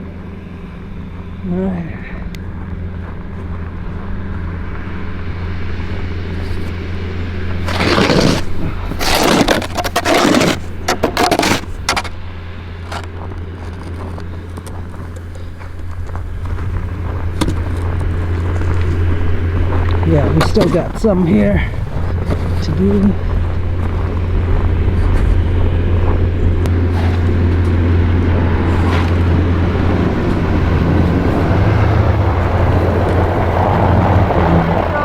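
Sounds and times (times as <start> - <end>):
vehicle engine running: 0.0 - 35.0
loud scraping: 4.6 - 35.0.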